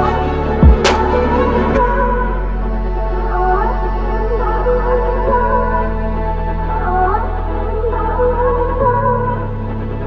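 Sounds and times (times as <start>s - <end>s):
ambient background music: 0.0s - 10.0s.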